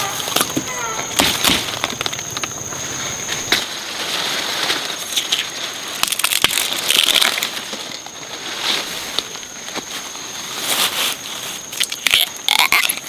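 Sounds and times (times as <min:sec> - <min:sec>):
dry plants crunching and snapping: 0:00.0 - 0:10.0, 0:11.7 - 0:13.0.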